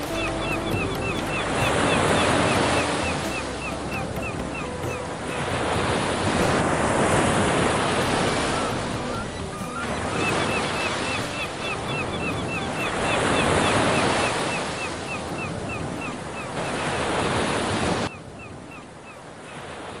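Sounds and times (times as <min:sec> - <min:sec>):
ocean surf breaking: 0:00.0 - 0:18.6.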